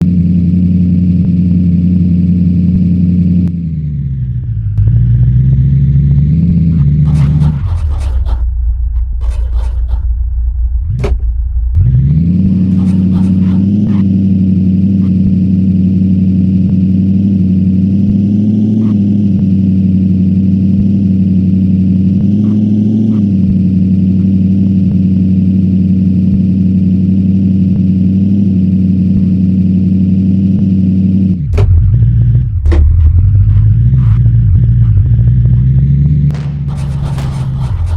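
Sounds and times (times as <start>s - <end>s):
suv engine running: 0.0s - 37.9s.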